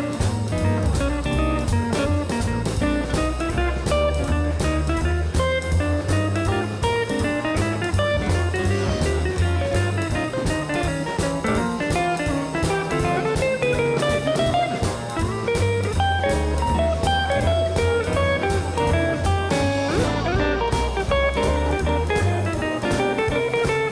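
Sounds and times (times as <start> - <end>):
guitar-led music with drums: 0.0 - 23.9.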